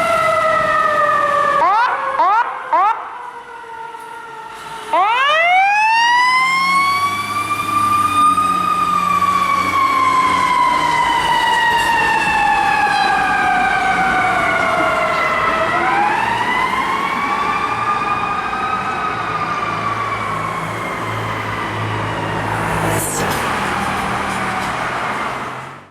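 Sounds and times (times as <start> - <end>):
fire truck engine running: 0.0 - 25.9.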